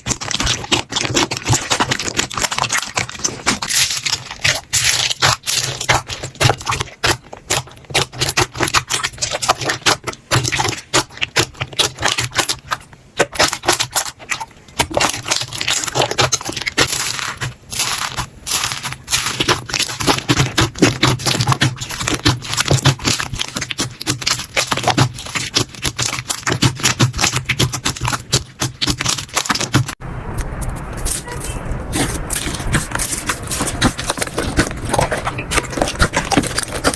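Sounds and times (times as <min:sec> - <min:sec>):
slime crackling and clicking: 0:00.0 - 0:30.5, 0:32.0 - 0:36.9.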